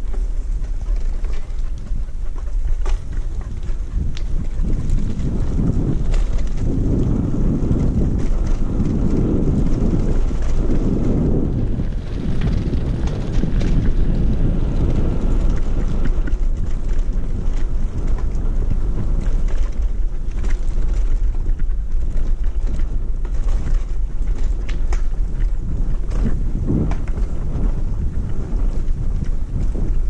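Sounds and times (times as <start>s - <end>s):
light clicks and crackles: 0.0s - 30.0s
wind buffeting microphone: 0.0s - 30.0s.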